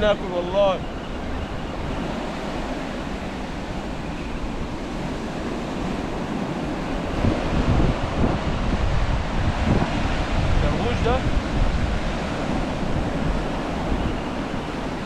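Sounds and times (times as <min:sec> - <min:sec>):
sea surf washing on shore: 0:00.0 - 0:15.0
wind on microphone: 0:00.0 - 0:15.0.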